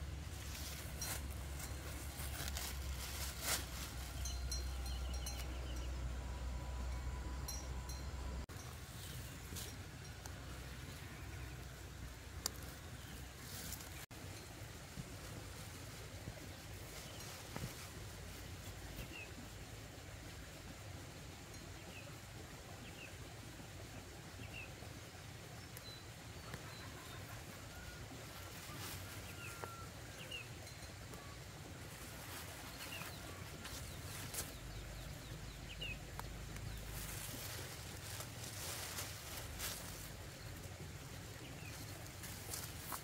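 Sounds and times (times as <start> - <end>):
rustle of leafy plants: 0.0 - 5.9, 8.5 - 43.0.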